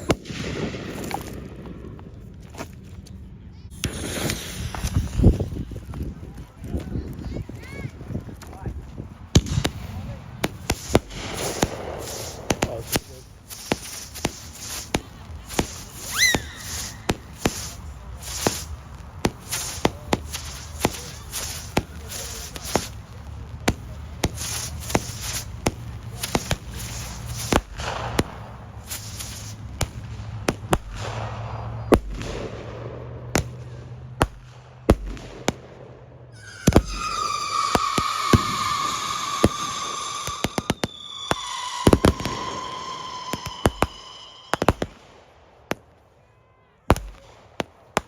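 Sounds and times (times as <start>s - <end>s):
firework whistling: 0.0s - 1.5s, 3.7s - 5.8s, 9.4s - 35.3s, 36.3s - 45.8s
firework crackle: 0.0s - 2.8s, 3.7s - 46.0s, 46.9s - 48.0s
firework shots: 0.0s - 2.8s, 3.7s - 46.1s, 46.9s - 48.0s.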